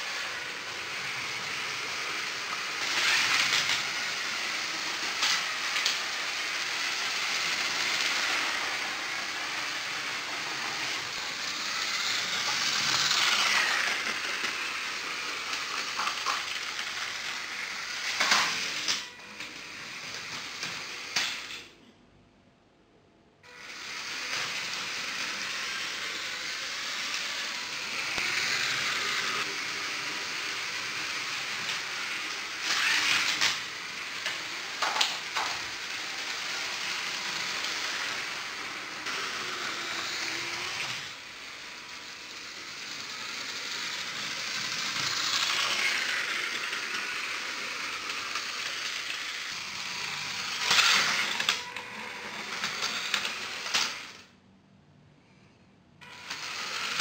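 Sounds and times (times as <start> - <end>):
toy train motor whir: 0.0 - 21.7, 23.4 - 54.4, 56.0 - 57.0.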